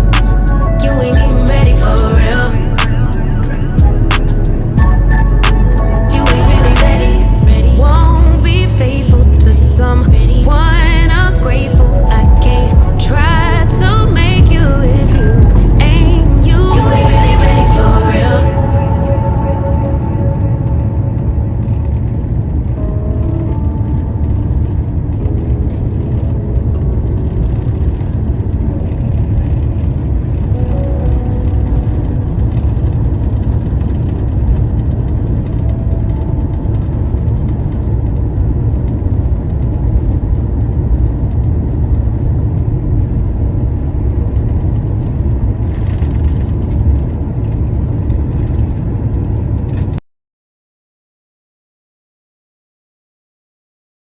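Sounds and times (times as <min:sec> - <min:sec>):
faint music: 0:00.0 - 0:48.8
low rumble of traffic: 0:00.0 - 0:50.0.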